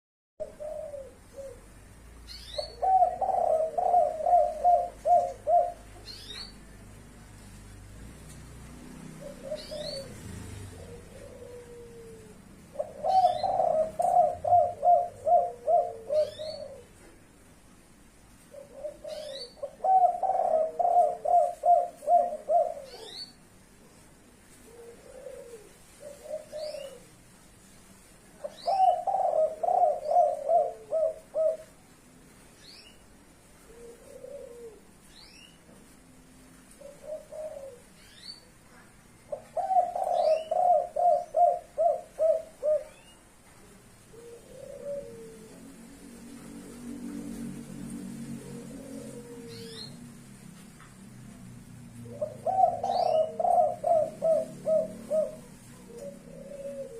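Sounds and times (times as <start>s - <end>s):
dove cooing: 0.4s - 6.6s, 9.0s - 17.2s, 18.4s - 27.2s, 28.4s - 31.9s, 33.5s - 35.1s, 36.7s - 50.3s, 51.9s - 56.9s.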